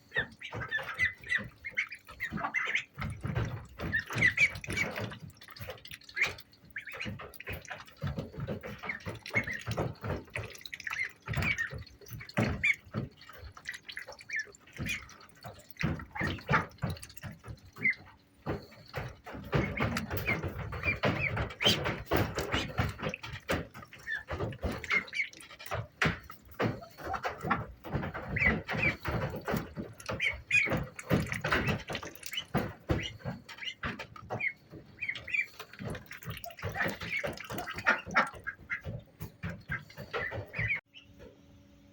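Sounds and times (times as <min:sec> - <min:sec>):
wet dabbling sounds: 0:00.0 - 0:40.9
ducklings peeping: 0:00.0 - 0:41.2.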